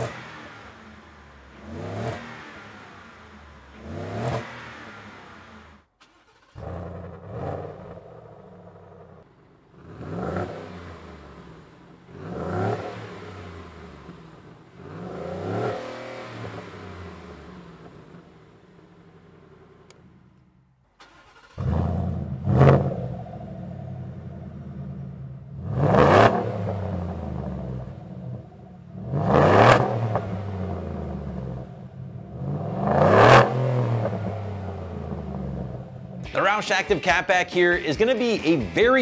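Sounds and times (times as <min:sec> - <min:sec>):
engine revving: 0:00.0 - 0:18.6, 0:21.0 - 0:36.7.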